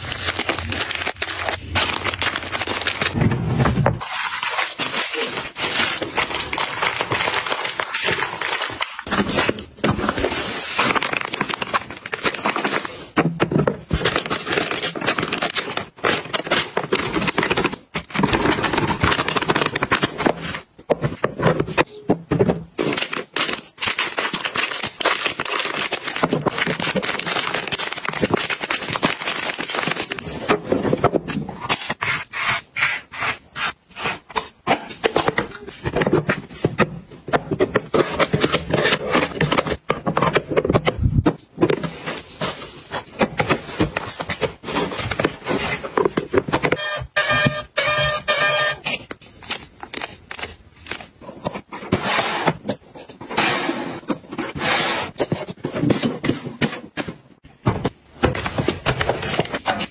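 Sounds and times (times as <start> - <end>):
cardboard and plastic crinkling: 0.0 - 32.0, 34.4 - 53.4, 54.0 - 59.9.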